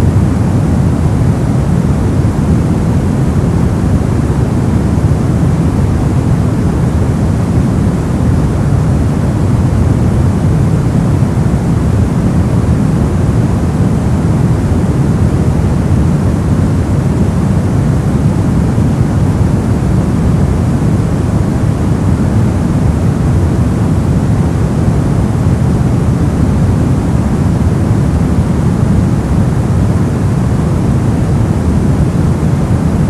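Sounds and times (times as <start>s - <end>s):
brown noise: 0.0s - 33.0s.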